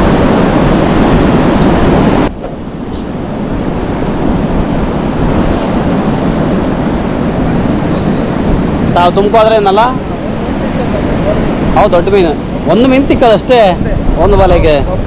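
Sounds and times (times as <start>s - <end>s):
sea surf: 0.0s - 15.0s
wind rumbling on microphone: 0.0s - 15.0s.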